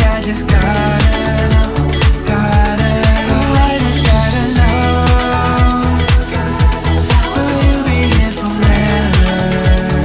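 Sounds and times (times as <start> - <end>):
music with bass drum beat: 0.0 - 10.0.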